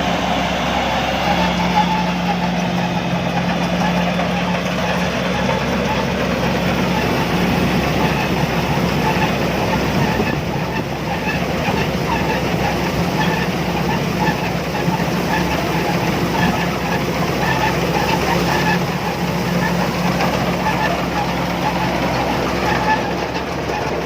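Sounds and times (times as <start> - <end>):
combine harvester engine hum: 0.0 - 24.0.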